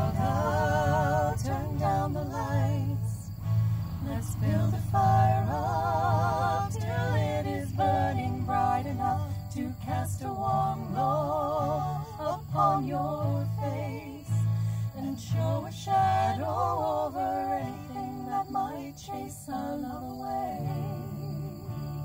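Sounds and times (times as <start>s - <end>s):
women singing with vibrato: 0.0s - 3.3s, 3.9s - 21.8s
strummed acoustic guitars: 0.0s - 22.0s.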